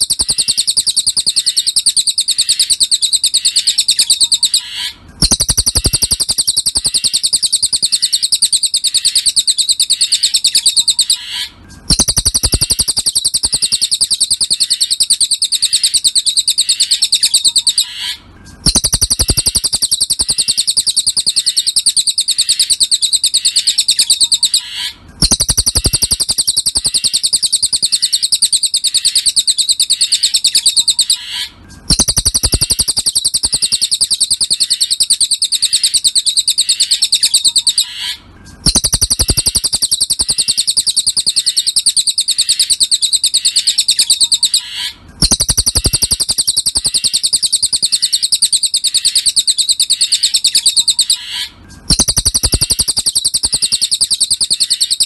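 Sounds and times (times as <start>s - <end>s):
high-pitched chattering bird trill: 0.0s - 55.0s.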